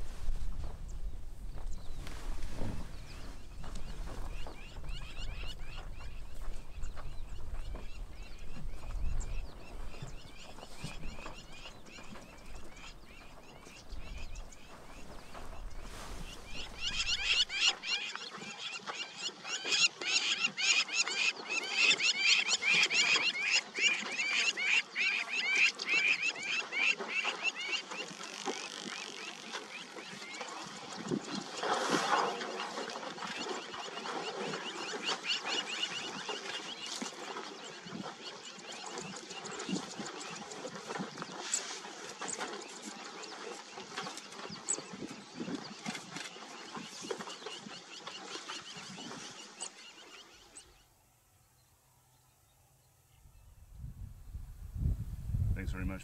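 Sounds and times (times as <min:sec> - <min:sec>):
birds chirping: 0:00.0 - 0:54.6, 0:55.6 - 0:56.0.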